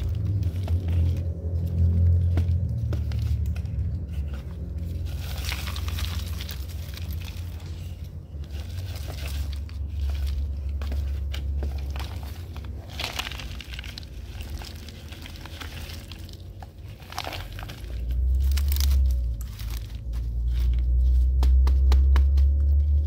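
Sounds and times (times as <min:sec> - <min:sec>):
bark substrate crunching: 0:00.0 - 0:21.3
low rumble: 0:00.0 - 0:23.0.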